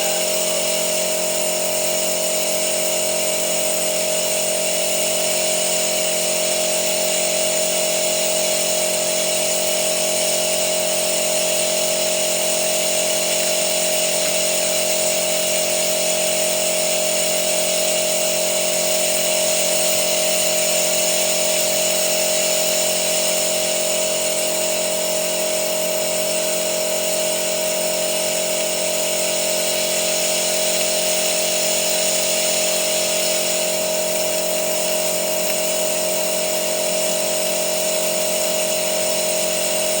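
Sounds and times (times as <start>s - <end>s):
small motor whining: 0.0s - 40.0s.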